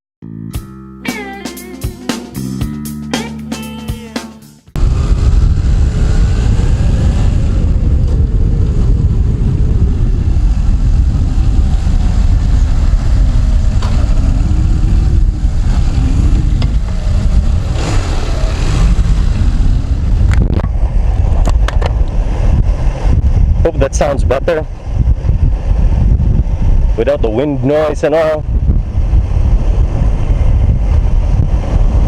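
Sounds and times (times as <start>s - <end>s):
motorcycle engine running: 1.6s - 27.4s, 28.5s - 32.0s
wind rumble on microphone: 4.8s - 32.0s.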